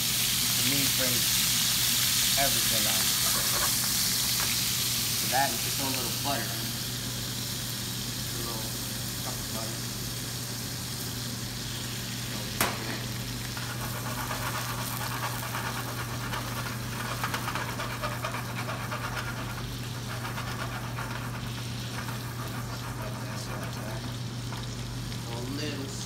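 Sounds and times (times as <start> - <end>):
sauce sizzling in a skillet: 0.0 - 26.0
steady low hum: 2.2 - 26.0.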